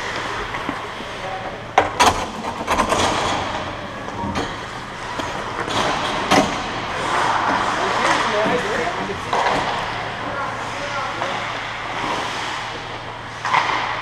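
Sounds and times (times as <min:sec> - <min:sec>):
ice rink noise: 0:00.0 - 0:14.0.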